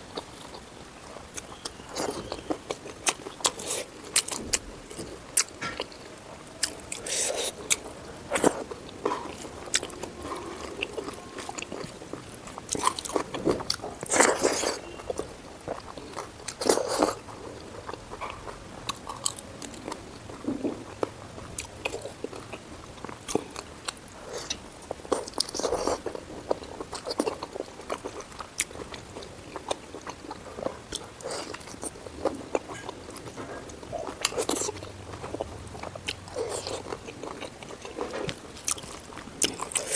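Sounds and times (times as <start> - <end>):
biting and crunching food: 0.0 - 39.9
wet chewing: 0.1 - 39.9.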